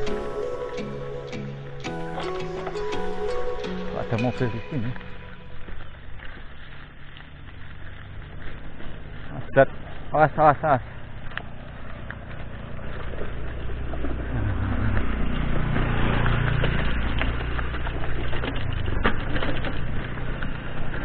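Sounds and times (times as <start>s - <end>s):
bicycle tyres on rocky dirt track: 0.0s - 21.0s
motor scooter passing: 0.0s - 21.0s.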